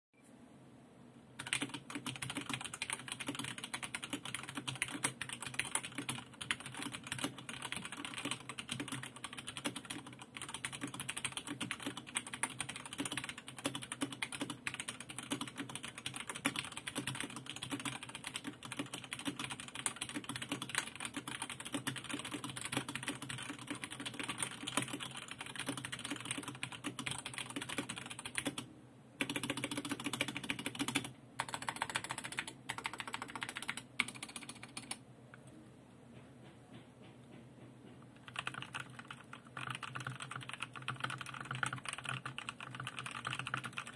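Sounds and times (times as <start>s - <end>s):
mechanical keyboard typing: 1.4s - 35.0s, 38.2s - 43.9s.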